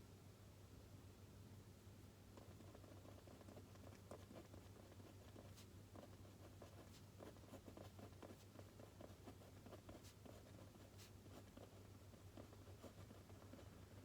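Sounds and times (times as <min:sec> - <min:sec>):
low steady hum: 0:00.0 - 0:14.0
pen scratching on paper: 0:02.4 - 0:14.0.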